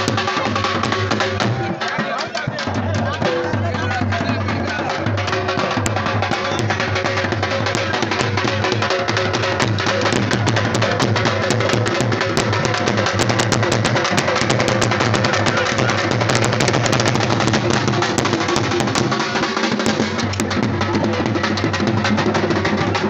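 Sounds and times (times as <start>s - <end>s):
dance music with fast drumming: 0.0s - 23.0s.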